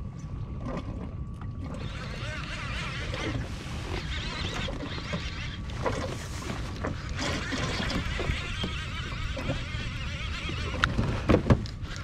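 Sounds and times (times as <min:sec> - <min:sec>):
water lapping at hull: 0:00.0 - 0:12.0
wind rumbling on microphone: 0:00.0 - 0:12.0.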